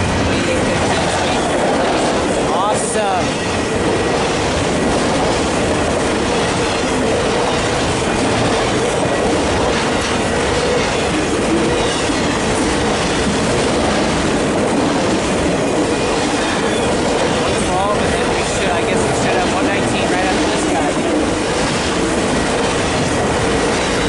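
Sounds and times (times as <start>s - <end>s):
train wheels clattering on rail: 0.0s - 24.0s.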